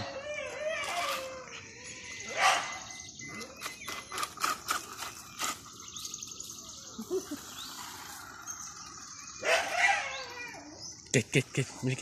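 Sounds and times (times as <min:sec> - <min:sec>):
birds chirping: 0:00.0 - 0:12.0
insects chirping: 0:00.0 - 0:12.0.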